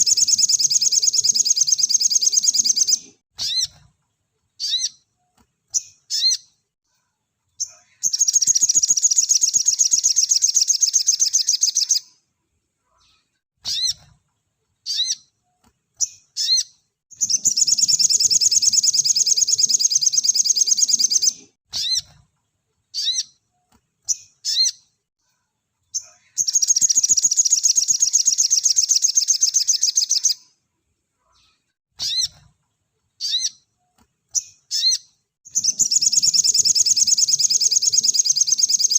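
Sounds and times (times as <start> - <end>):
bird chirping and trilling: 0.0 - 3.9, 4.6 - 6.6, 7.6 - 12.1, 13.0 - 14.2, 14.8 - 22.3, 22.9 - 25.0, 25.9 - 30.5, 31.4 - 32.5, 33.2 - 38.9.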